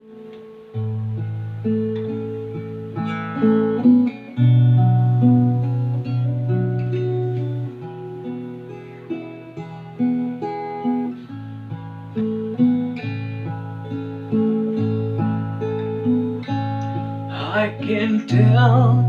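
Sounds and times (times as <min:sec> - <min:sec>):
guitar chords: 0:00.0 - 0:19.0.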